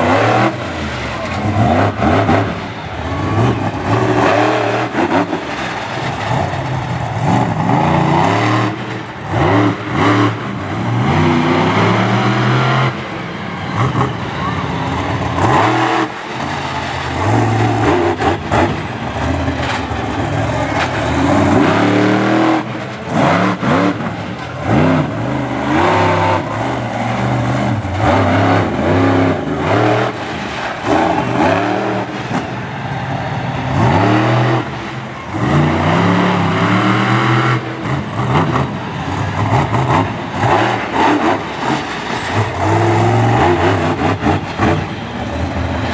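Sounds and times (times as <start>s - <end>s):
monster truck engine revving: 0.0s - 45.9s.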